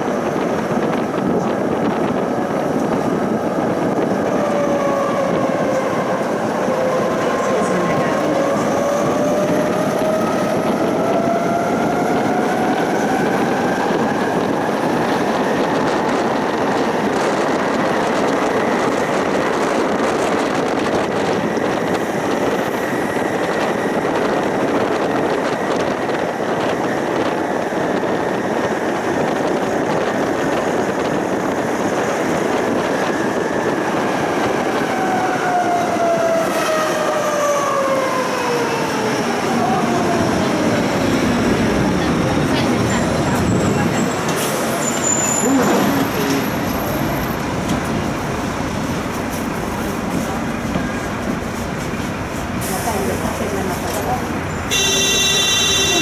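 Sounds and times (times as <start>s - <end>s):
tram wheels rumbling on track: 0.0s - 56.0s.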